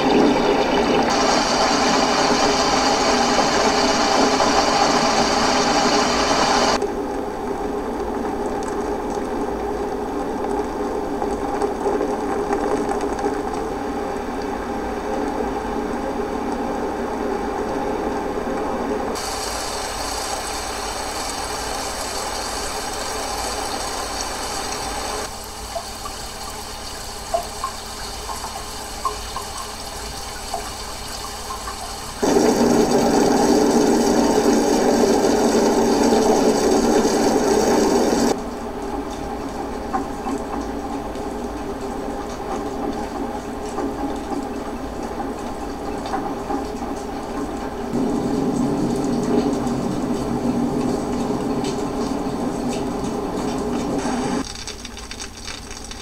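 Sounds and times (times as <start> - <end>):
water rushing: 0.0 - 6.8, 7.7 - 27.0, 27.8 - 38.4, 39.6 - 54.4.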